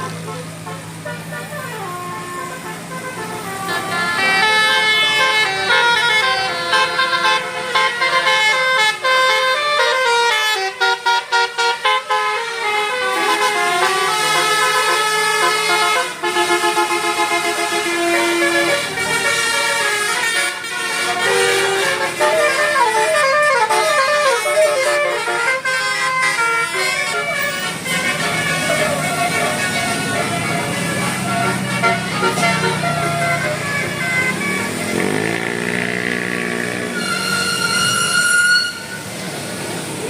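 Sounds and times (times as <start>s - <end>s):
multi-tone bus horn melody: 0.0s - 40.0s.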